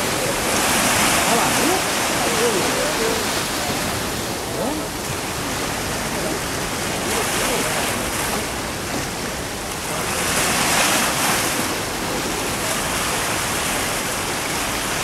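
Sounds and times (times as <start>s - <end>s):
sea surf washing in: 0.0s - 15.0s.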